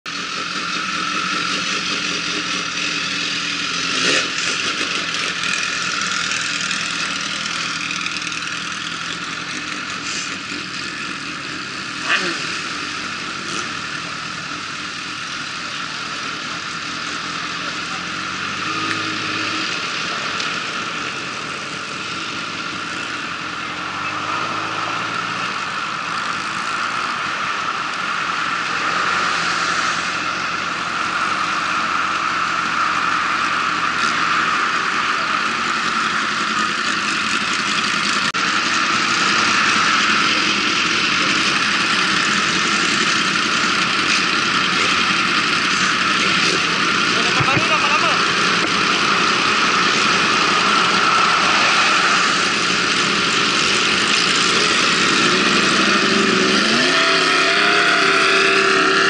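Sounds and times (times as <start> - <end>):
motorcycle engines idling and pulling away: 0.1 - 59.0.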